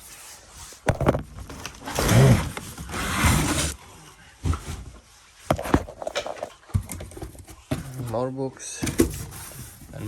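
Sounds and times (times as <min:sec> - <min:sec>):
books and boxes rustling: 0:00.0 - 0:10.0.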